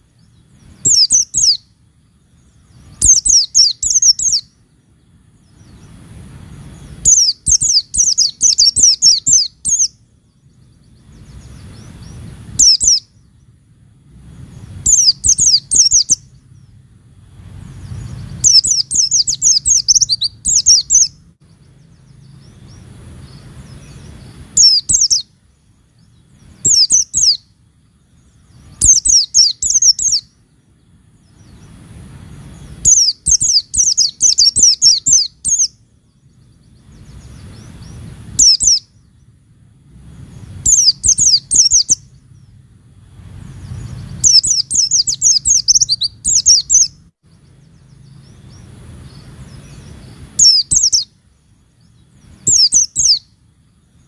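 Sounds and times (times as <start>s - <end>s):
bird chirping high-pitched: 0.0s - 30.4s, 31.1s - 39.4s, 40.1s - 42.6s, 43.2s - 54.0s
faint low hum: 0.0s - 54.0s.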